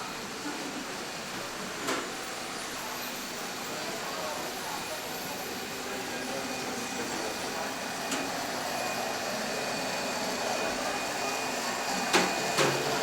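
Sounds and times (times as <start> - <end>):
busy indoor hall din: 0.0 - 13.0.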